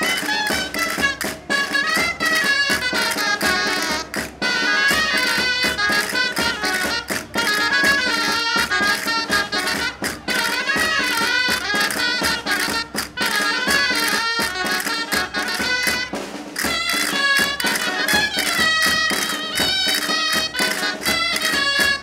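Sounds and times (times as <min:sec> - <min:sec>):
drum strokes: 0:00.0 - 0:22.0
shawms playing folk dance tune: 0:00.0 - 0:22.0.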